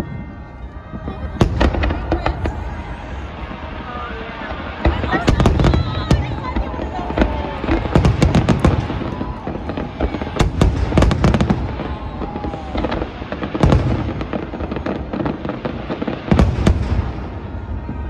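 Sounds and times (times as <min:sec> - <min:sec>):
fireworks bursting with bangs: 0:00.0 - 0:18.0
fireworks crackling: 0:00.0 - 0:18.0.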